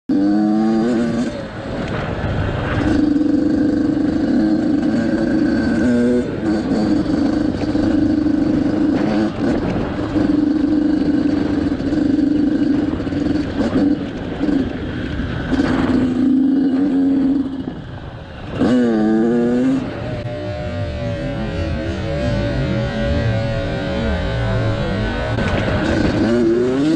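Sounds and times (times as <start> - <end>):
motorcycle engine revving: 0.1 - 26.9.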